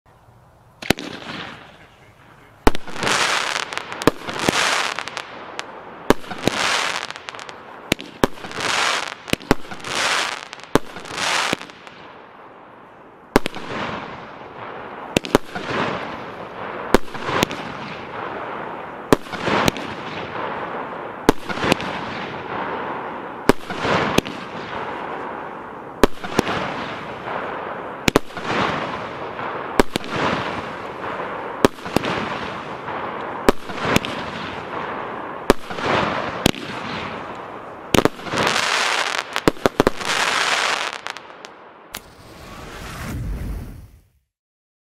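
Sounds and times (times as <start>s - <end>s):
firework battery bangs and hiss: 0.8s - 12.5s, 13.3s - 44.1s.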